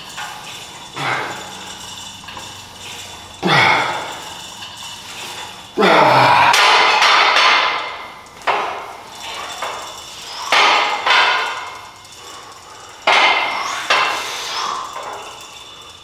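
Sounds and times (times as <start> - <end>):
weight machine metal clanking: 0.0 - 16.0.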